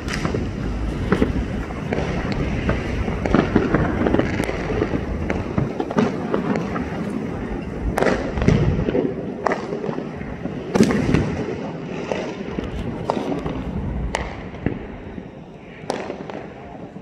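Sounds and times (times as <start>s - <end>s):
fireworks bangs: 0.0s - 17.0s
fireworks crackling rumble: 0.0s - 17.0s.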